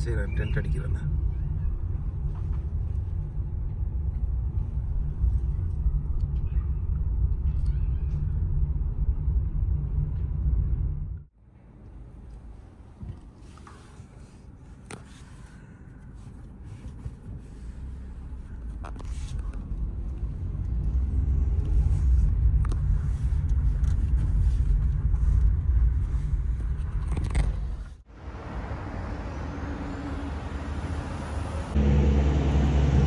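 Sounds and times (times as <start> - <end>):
motor vehicle rumble: 0.0 - 33.0.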